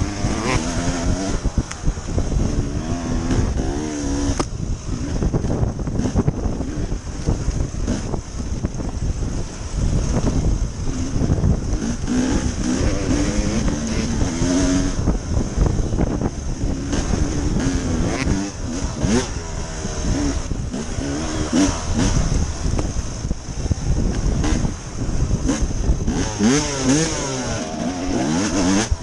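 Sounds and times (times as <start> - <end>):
dirt bike engine revving: 0.0 - 29.0
wind buffeting microphone: 0.0 - 29.0.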